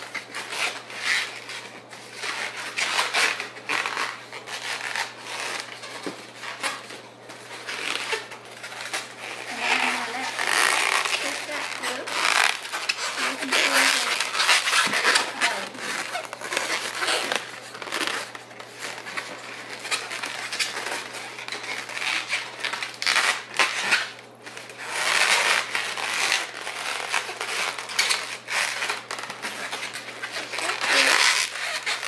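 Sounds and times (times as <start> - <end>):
rubber balloons crinkling: 0.0 - 32.0.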